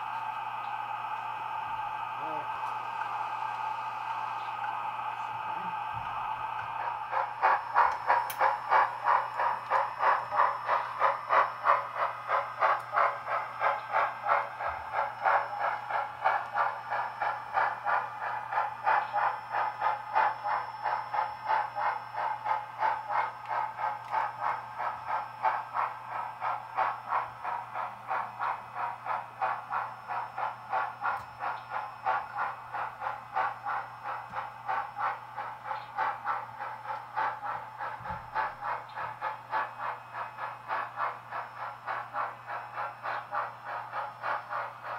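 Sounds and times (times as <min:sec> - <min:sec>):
model steam locomotive chuffing: 0:00.0 - 0:44.9
steady low hum: 0:00.0 - 0:44.9.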